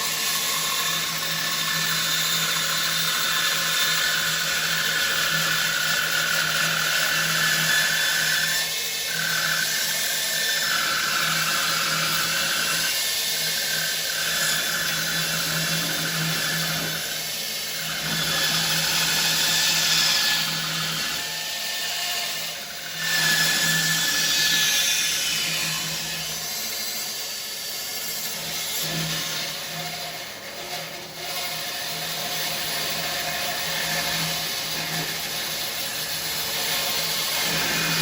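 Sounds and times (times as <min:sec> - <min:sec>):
bandsaw motor hum: 0:00.0 - 0:38.0
saw blade rasping in wood: 0:00.0 - 0:38.0.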